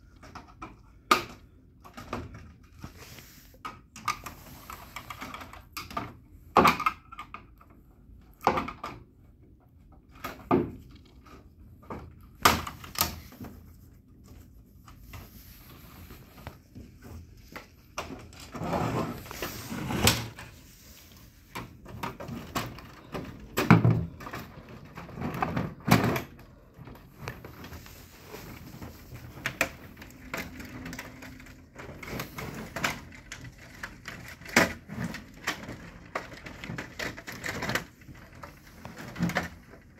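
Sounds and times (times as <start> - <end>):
plastic covers clicking and snapping: 0.0 - 2.9, 3.6 - 14.4, 19.2 - 39.9.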